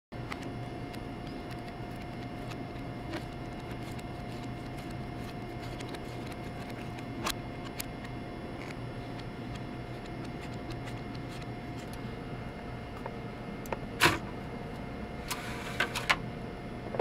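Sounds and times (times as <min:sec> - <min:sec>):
steady hum: 0:00.1 - 0:17.0.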